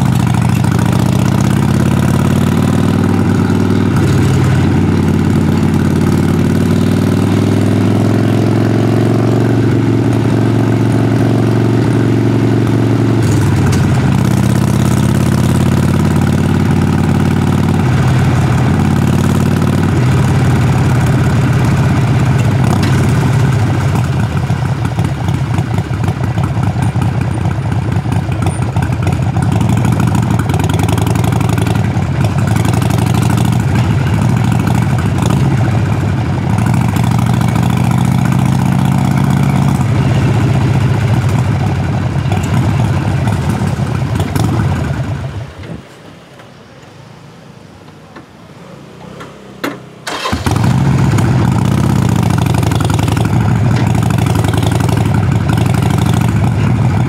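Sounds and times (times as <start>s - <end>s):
motorcycle engine revving while riding: 0.0s - 45.3s, 49.1s - 57.0s.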